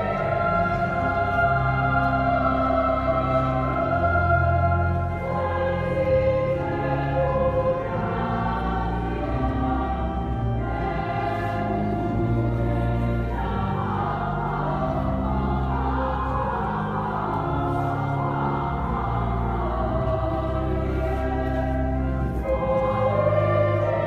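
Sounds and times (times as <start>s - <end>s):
choir singing: 0.0s - 24.0s
organ chords: 0.0s - 24.0s.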